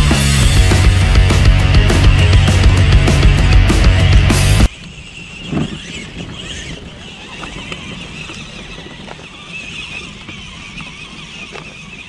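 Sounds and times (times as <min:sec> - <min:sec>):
rc car motor whining: 0:01.9 - 0:12.0.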